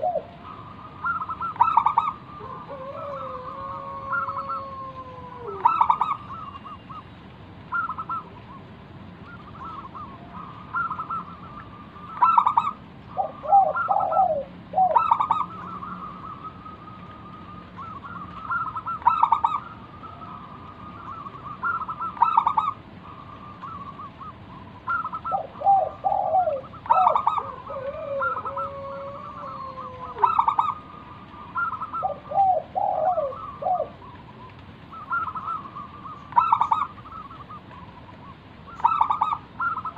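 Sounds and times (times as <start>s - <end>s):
dove cooing: 0.0s - 7.1s, 7.7s - 39.9s.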